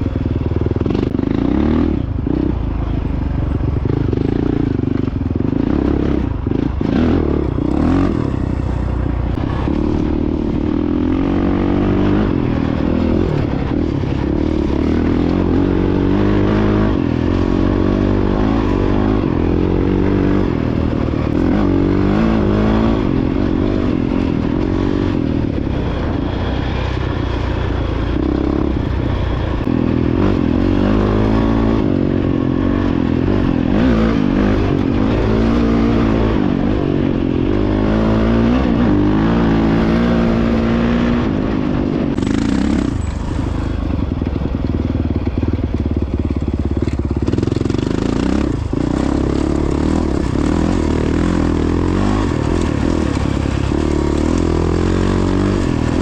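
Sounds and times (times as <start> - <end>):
dirt bike engine revving: 0.0 - 44.6, 45.3 - 56.0.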